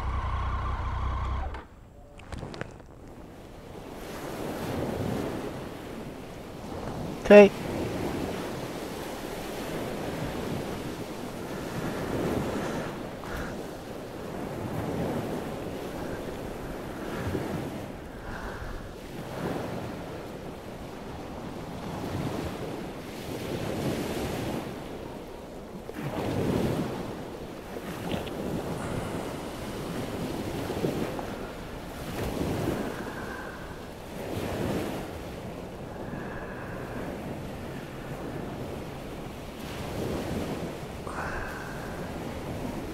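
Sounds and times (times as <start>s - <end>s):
gusting wind on microphone: 0.0s - 42.9s
sea: 0.0s - 42.9s.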